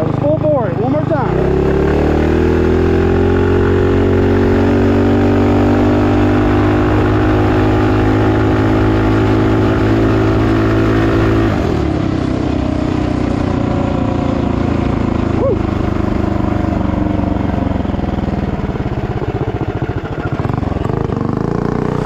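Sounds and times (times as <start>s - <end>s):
minibike engine revving: 0.0s - 22.0s.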